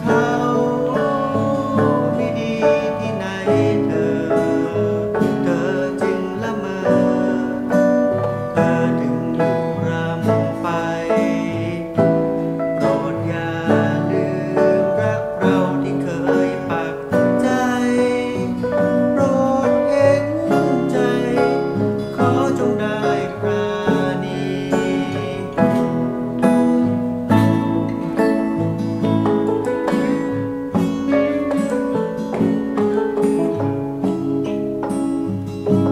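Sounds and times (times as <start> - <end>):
small band playing: 0.0 - 35.9
strummed guitar: 0.0 - 35.9.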